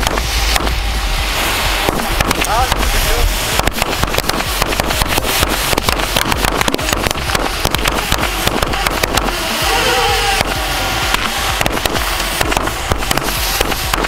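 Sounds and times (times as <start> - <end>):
firecrackers crackling: 0.0 - 14.0.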